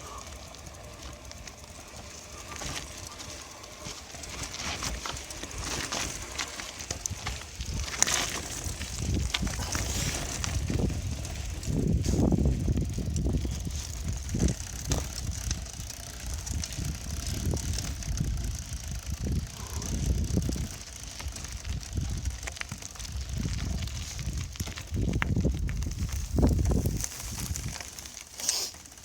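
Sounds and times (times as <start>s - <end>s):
bicycle rolling rumble with bumps: 0.0s - 29.0s.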